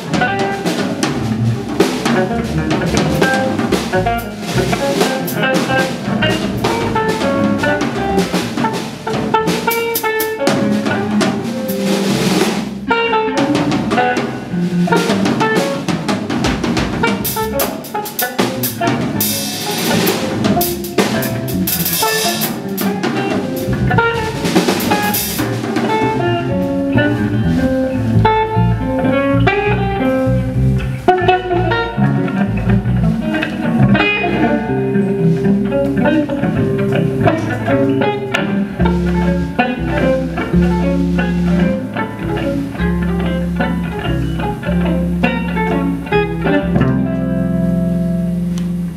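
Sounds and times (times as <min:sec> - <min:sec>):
drum kit played busily: 0:00.0 - 0:48.9
electric bass: 0:00.0 - 0:48.9
electric guitar: 0:00.0 - 0:48.9.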